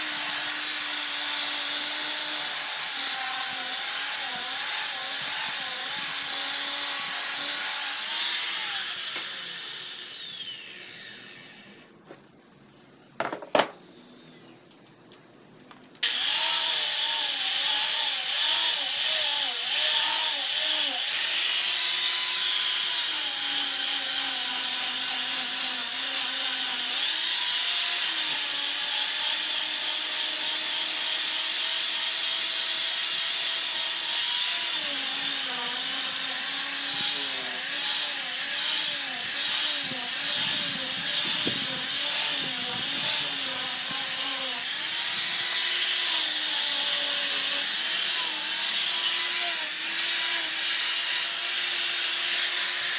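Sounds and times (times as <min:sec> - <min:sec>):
electric power tool motor: 0:00.0 - 0:11.8, 0:16.0 - 0:52.9.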